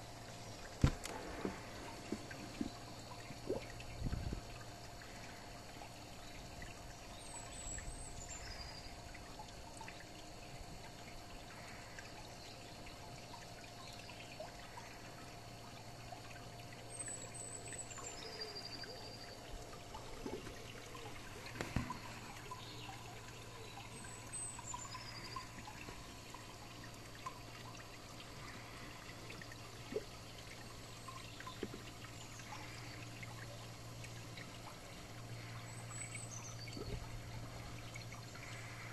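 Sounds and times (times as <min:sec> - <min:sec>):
steady low hum: 0:00.0 - 0:38.9
water pouring into a pond: 0:00.0 - 0:38.9.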